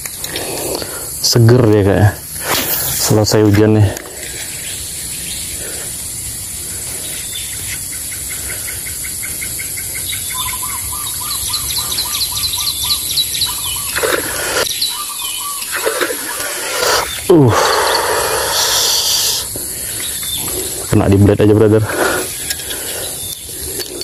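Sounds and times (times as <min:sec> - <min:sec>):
small birds calling: 0:00.0 - 0:24.0
steady high-pitched hiss: 0:00.0 - 0:24.0.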